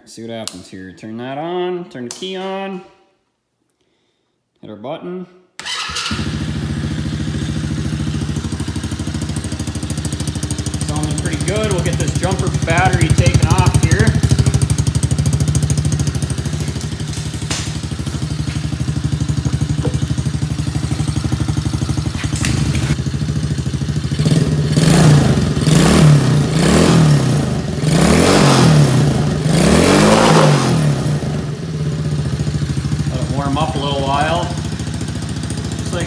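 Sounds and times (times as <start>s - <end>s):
small engine idling and revving: 5.6s - 36.0s.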